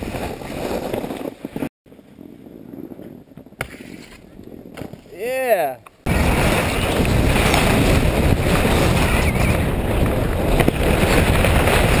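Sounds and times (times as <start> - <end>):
wind rushing on microphone: 0.0 - 12.0.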